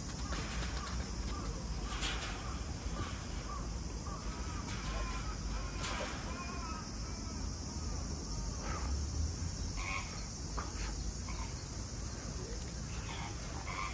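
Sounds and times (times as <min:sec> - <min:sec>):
low outdoor rumble: 0:00.0 - 0:13.9.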